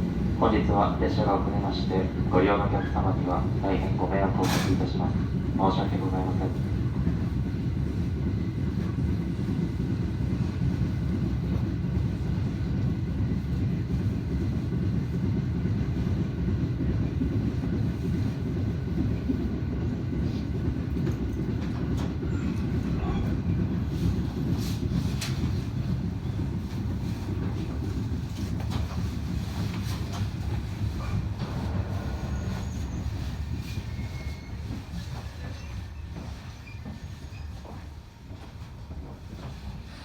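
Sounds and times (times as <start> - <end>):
train rumble inside carriage: 0.0 - 40.0.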